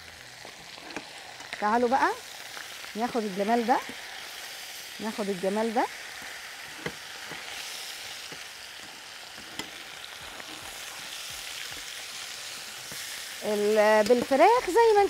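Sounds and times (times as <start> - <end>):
meat and onion sizzling: 0.0 - 15.0.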